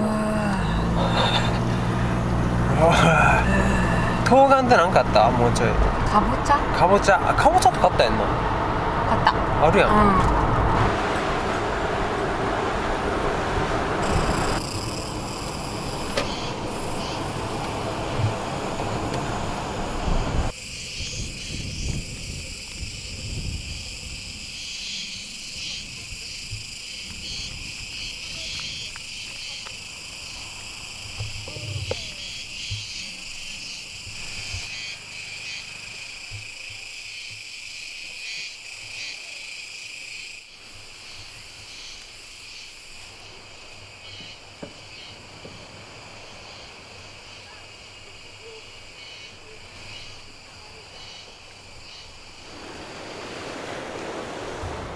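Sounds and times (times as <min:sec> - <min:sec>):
insects chirring: 0:00.0 - 0:54.9.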